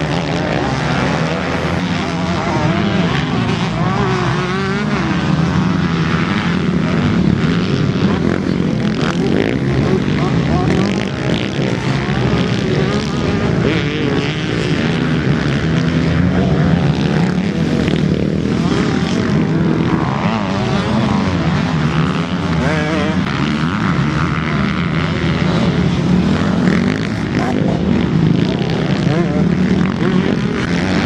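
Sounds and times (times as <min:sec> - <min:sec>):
motocross bikes revving past: 0:00.0 - 0:31.0.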